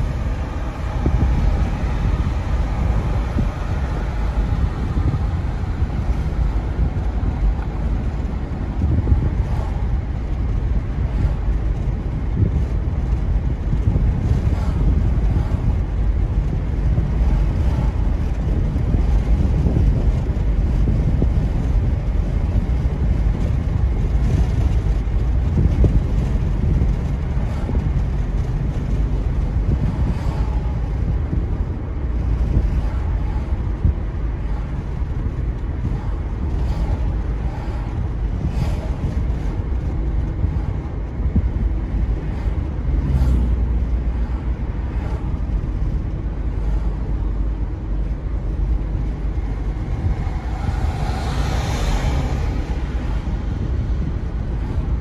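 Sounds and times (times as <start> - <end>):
tyres and engine rumble: 0.0 - 55.0
wind noise on microphone: 0.0 - 55.0.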